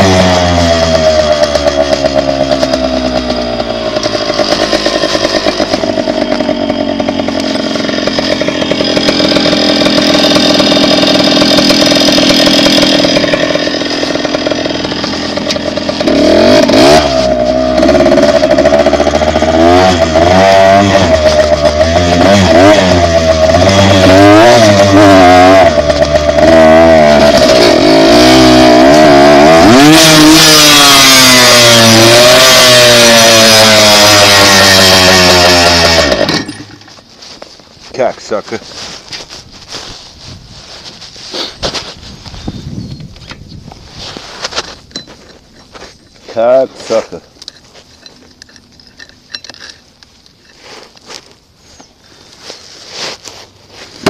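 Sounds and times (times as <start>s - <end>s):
dirt bike engine revving: 0.0s - 48.2s.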